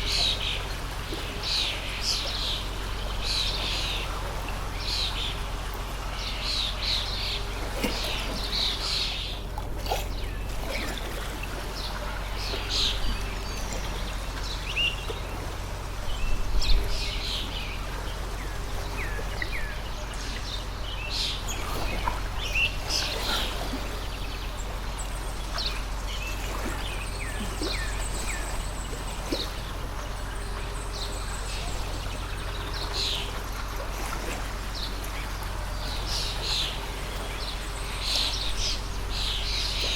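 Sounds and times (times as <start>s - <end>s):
birds chirping: 0.0s - 39.9s
stream water flowing: 0.0s - 39.9s.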